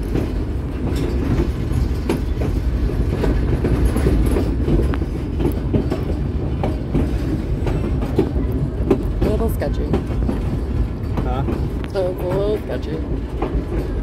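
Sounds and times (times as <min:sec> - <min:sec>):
train rumbling along track: 0:00.0 - 0:14.0
train wheels clicking on rails: 0:00.0 - 0:14.0.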